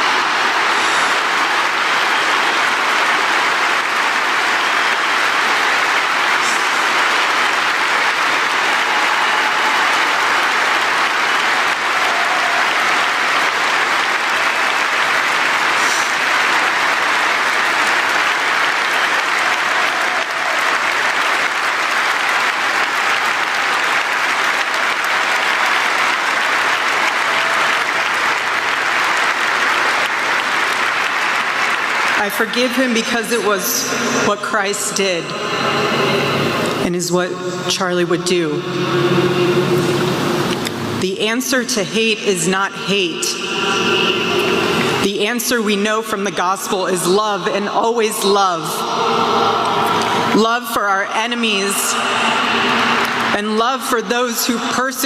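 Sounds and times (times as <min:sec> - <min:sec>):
audience applauding: 0:00.0 - 0:36.9, 0:38.6 - 0:41.0, 0:43.0 - 0:45.1, 0:48.8 - 0:50.4, 0:51.4 - 0:53.6.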